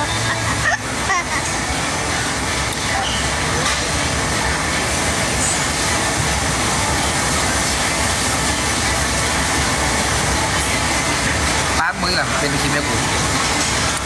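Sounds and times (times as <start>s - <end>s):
loud steady background noise: 0.0s - 14.0s.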